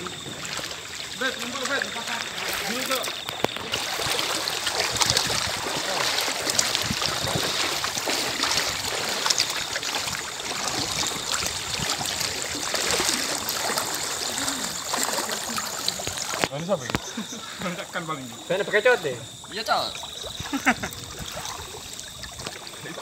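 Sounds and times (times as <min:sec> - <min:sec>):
water splashing around rubber boat: 0:00.0 - 0:23.0.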